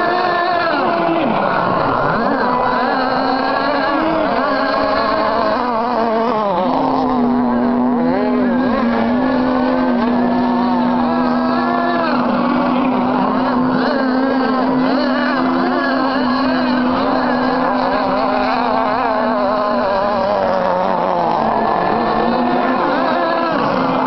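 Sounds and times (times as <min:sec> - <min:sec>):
model boat engines at high revs: 0:00.0 - 0:24.0.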